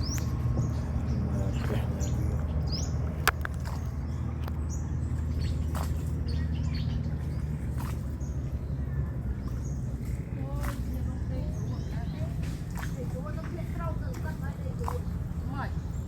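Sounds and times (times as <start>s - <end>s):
birds chirping: 0.0s - 16.0s
low engine hum: 0.0s - 16.0s.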